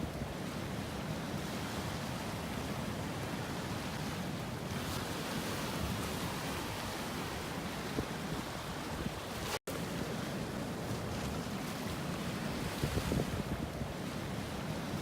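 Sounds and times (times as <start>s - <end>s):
ocean surf: 0.0s - 15.0s
wind: 0.0s - 15.0s.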